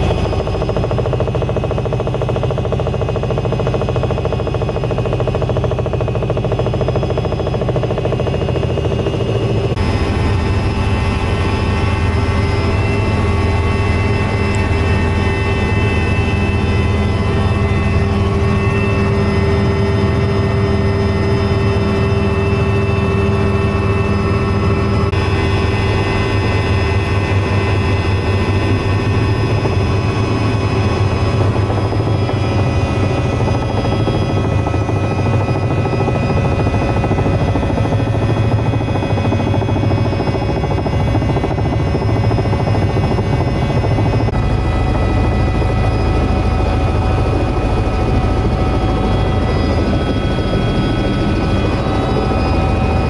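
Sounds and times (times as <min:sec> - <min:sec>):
helicopter engine and rotor: 0:00.0 - 0:53.0.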